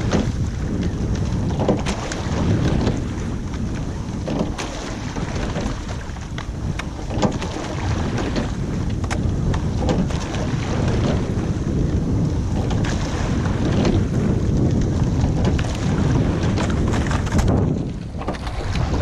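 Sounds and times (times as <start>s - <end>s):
oars knocking in oarlocks: 0.0s - 11.4s, 12.5s - 19.0s
water rushing past boat: 0.0s - 19.0s
wind buffeting microphone: 0.0s - 19.0s.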